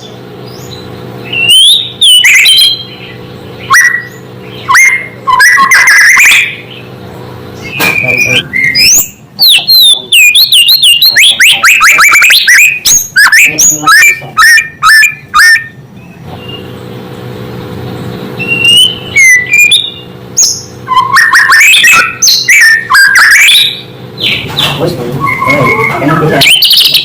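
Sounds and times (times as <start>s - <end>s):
bird singing whistles and chirps: 0.5s - 6.9s, 7.6s - 14.6s, 18.4s - 27.0s.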